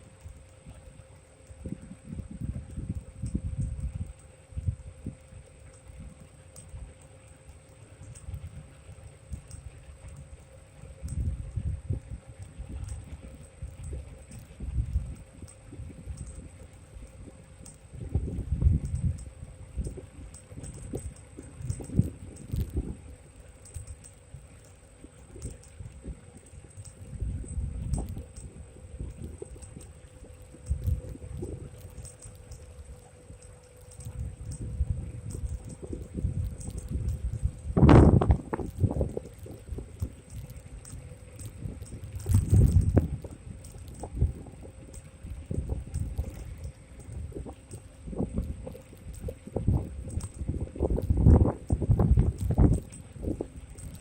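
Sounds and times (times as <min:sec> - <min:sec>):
small ticks: 0:00.0 - 0:54.0
wind buffeting microphone: 0:01.6 - 0:06.3, 0:11.0 - 0:23.4, 0:25.0 - 0:54.0.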